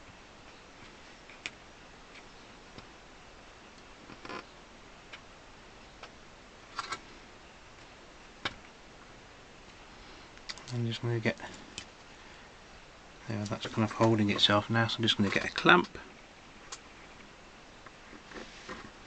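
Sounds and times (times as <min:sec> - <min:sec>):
room hiss: 0:00.0 - 0:19.0.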